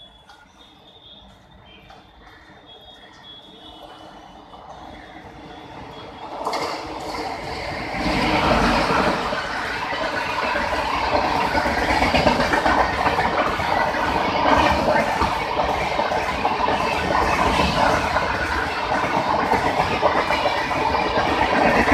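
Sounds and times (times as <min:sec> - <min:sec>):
passenger train passing: 0:00.0 - 0:21.9.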